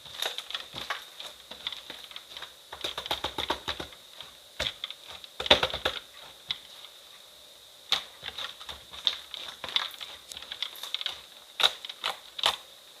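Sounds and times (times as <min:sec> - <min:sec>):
slime clicking and crackling: 0:00.0 - 0:06.9, 0:07.9 - 0:12.7.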